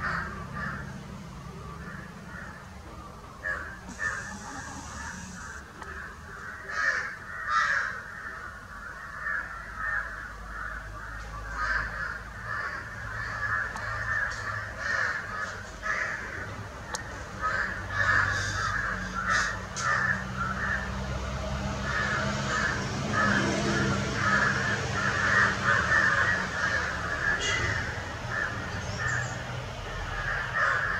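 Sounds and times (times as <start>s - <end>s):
birds calling: 0.0s - 20.9s, 21.8s - 30.9s.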